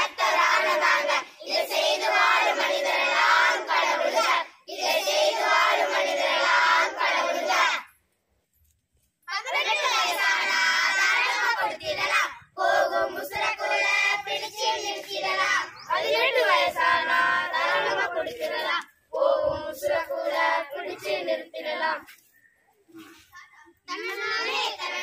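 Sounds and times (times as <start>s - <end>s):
children singing in unison: 0.0s - 7.9s, 9.4s - 22.1s, 23.9s - 25.0s.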